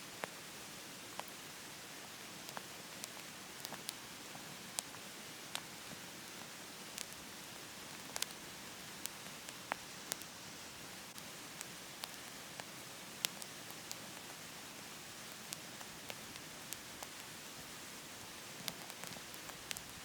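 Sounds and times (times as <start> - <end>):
steady hiss: 0.0 - 20.0
wood fire crackling and popping: 1.1 - 1.4, 2.2 - 20.0.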